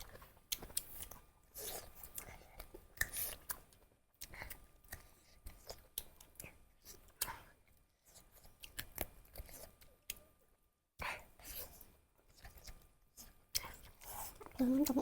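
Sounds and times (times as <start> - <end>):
close-miked chewing and smacking: 0.0 - 15.0.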